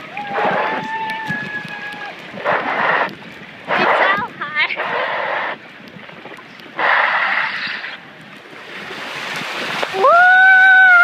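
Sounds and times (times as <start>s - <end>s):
wind and water rushing: 0.0s - 11.0s
wind buffeting microphone: 0.0s - 11.0s.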